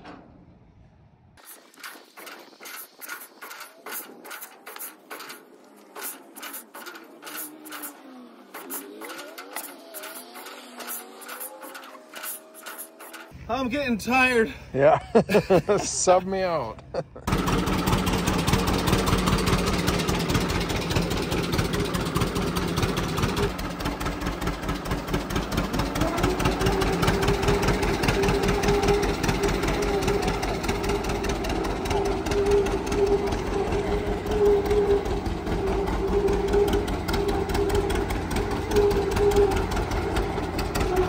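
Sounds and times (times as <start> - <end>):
engine running: 1.4 - 14.8, 15.4 - 41.0.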